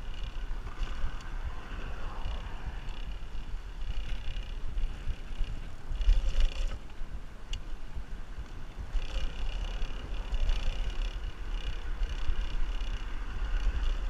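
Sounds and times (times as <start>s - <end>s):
bicycle rolling noise: 0.0s - 14.0s
wind buffeting microphone: 0.0s - 14.0s.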